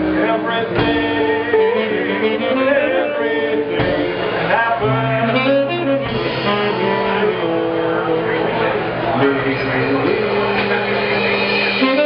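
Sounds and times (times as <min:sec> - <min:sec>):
live jazz band playing: 0:00.0 - 0:12.0
man singing into a microphone: 0:00.0 - 0:12.0.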